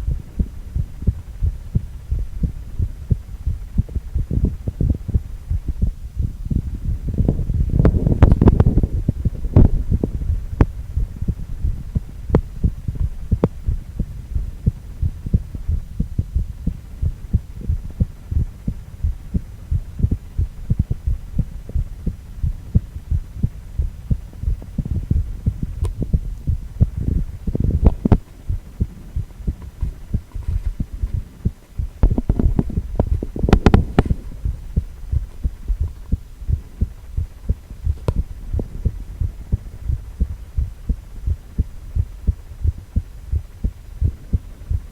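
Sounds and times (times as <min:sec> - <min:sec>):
heartbeat thuds: 0:00.0 - 0:44.9.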